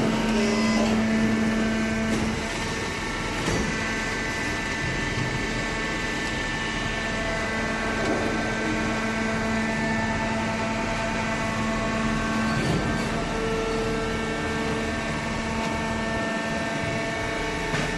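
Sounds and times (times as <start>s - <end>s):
baler machine hum: 0.0s - 17.9s.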